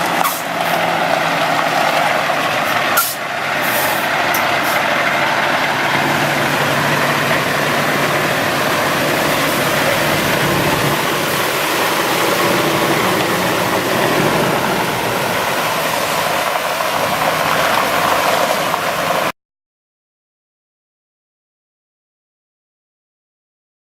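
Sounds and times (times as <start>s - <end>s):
diesel truck engine running: 0.0s - 19.3s.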